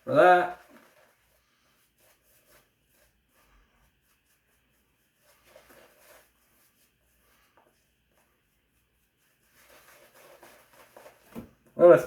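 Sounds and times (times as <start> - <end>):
faint soft rustles: 0.0 - 12.0.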